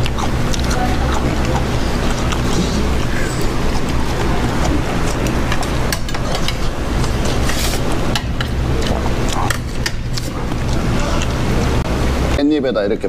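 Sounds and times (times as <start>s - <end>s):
chewing: 0.0s - 11.8s
low mechanical hum: 0.0s - 13.0s.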